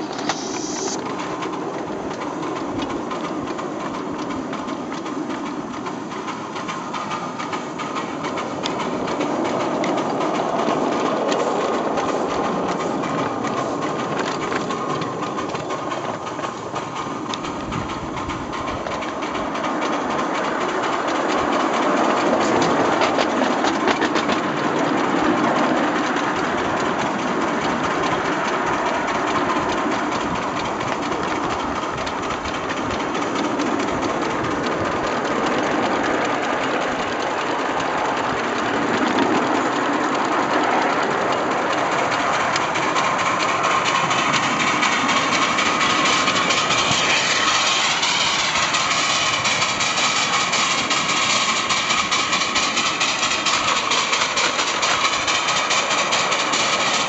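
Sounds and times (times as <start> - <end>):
steam locomotive exhaust beat: 0.0 - 57.0
wheels clicking over rails: 0.0 - 57.0.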